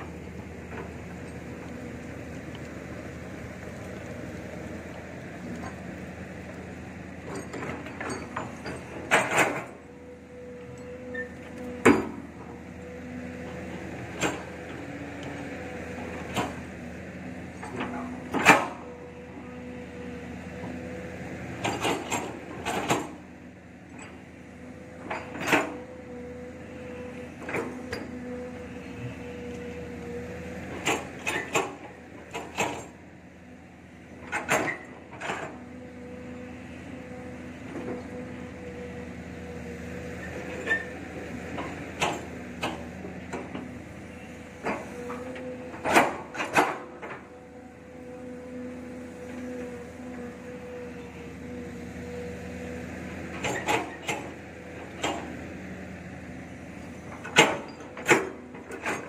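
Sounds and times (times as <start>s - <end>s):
excavator engine and hydraulic drone: 0.0s - 59.0s.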